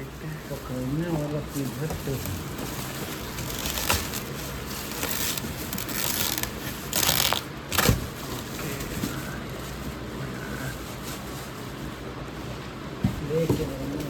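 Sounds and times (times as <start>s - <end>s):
plastic and cardboard rustling: 0.0s - 14.0s.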